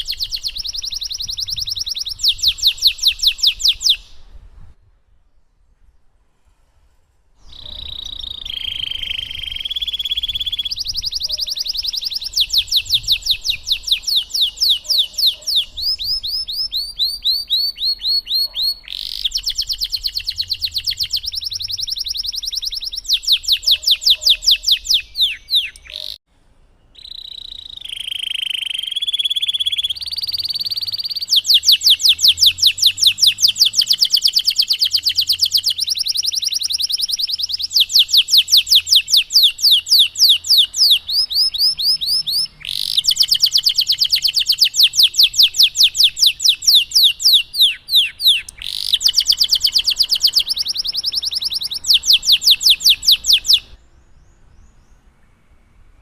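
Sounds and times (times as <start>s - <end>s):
canary singing trills: 0.0s - 4.3s, 7.4s - 26.2s, 26.9s - 55.4s.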